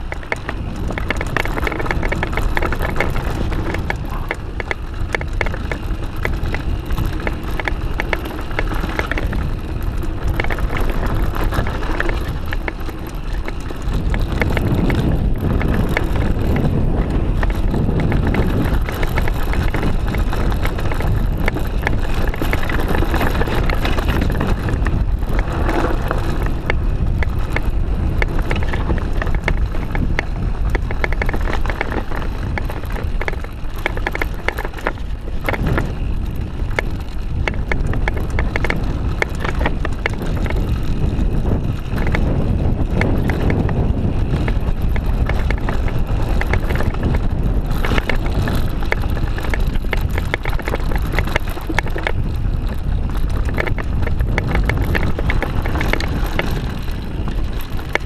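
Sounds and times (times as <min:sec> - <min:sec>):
bike rattling over bumps: 0:00.0 - 0:58.0
tyres rolling over dirt: 0:00.0 - 0:58.0
wind buffeting microphone: 0:00.0 - 0:58.0.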